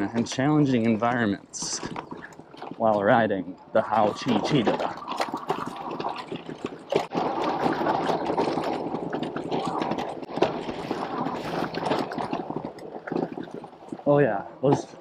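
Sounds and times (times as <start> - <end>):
bike tyres rolling on dirt: 0.0 - 15.0.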